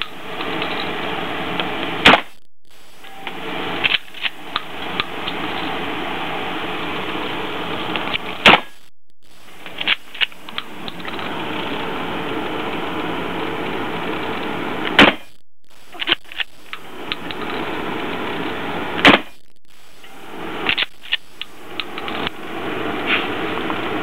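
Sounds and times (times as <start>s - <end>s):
ventilation hum: 0.0s - 24.0s.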